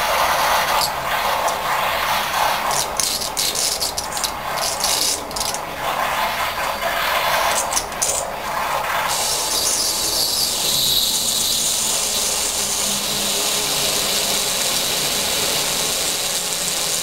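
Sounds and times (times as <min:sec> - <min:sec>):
air-powered water cleaner hissing: 0:00.0 - 0:08.2, 0:09.1 - 0:17.0.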